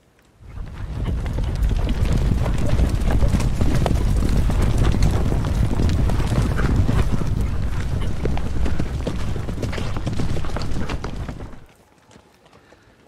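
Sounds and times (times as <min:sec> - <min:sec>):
horses galloping: 0:00.4 - 0:13.0.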